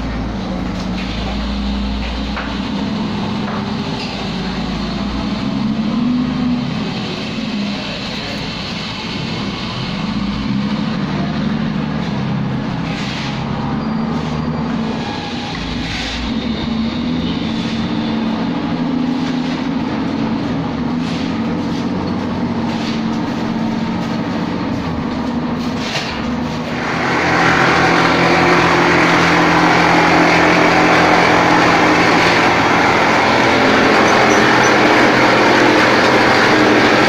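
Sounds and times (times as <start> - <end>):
plastering machine humming: 0.0 - 37.0.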